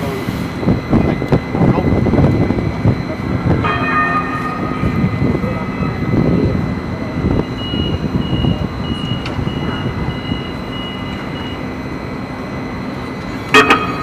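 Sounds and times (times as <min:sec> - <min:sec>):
tram rumbling: 0:00.0 - 0:14.0
high warning beeps: 0:00.7 - 0:14.0.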